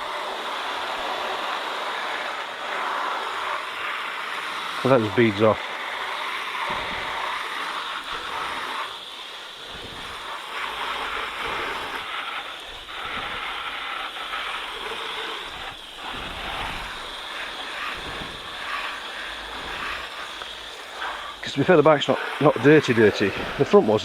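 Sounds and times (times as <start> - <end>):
water spray hissing: 0.0 - 24.0.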